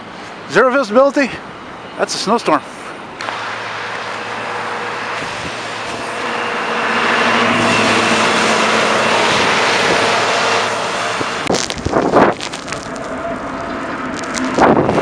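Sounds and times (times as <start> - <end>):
traffic noise: 0.0 - 15.0
wheel loader diesel engine droning: 2.7 - 15.0.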